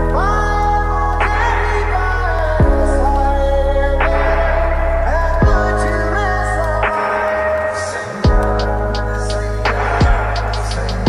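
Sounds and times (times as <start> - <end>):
deep bass: 0.0 - 7.2, 8.2 - 11.0
music with held chords: 0.0 - 11.0.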